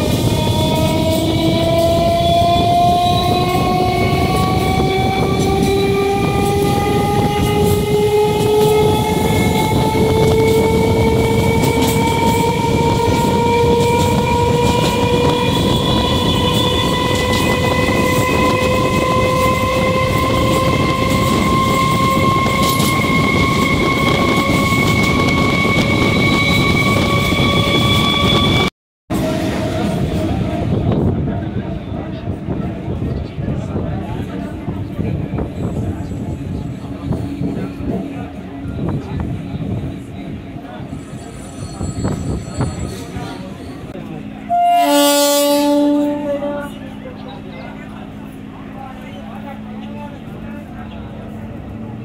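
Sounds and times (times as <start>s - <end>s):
train traction motors whining: 0.0s - 52.0s
wheels rumbling on track: 0.0s - 52.0s.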